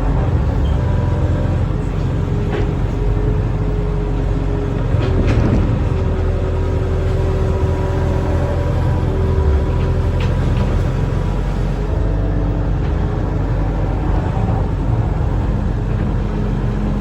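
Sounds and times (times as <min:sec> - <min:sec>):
excavator engine running: 0:00.0 - 0:17.0
hydraulic whine: 0:00.0 - 0:17.0.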